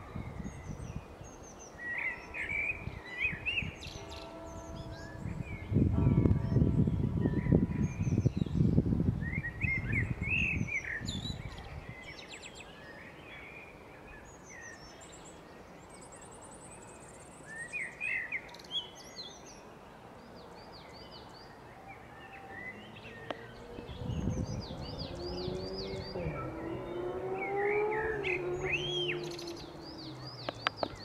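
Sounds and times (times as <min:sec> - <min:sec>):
songbirds warbling: 0:00.0 - 0:31.0.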